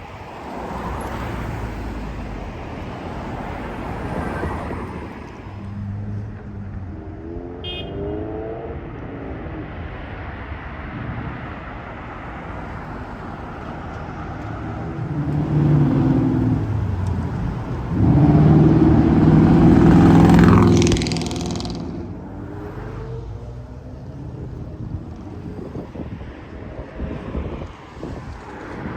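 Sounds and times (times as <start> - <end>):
motor vehicles passing: 0.0 - 28.9.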